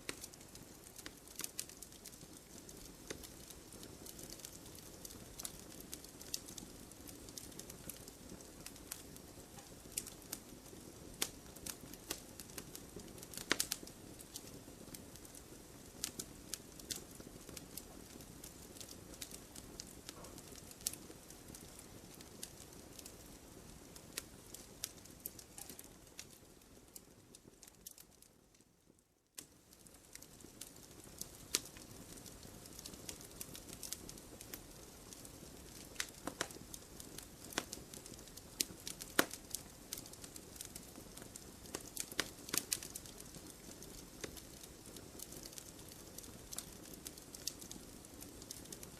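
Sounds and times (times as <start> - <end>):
fire popping and snapping: 0.0 - 48.9
wood fire crackling: 0.0 - 48.9.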